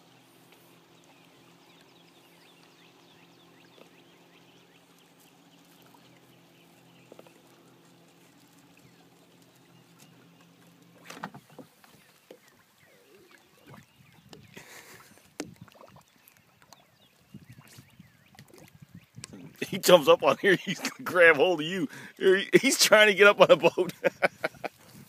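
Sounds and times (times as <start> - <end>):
light water splashes: 0.1 - 24.0.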